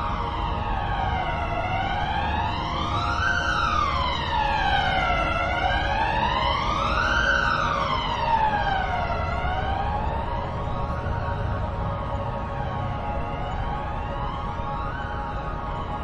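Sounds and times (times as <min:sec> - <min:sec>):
emergency vehicle siren wailing: 0:00.0 - 0:16.0.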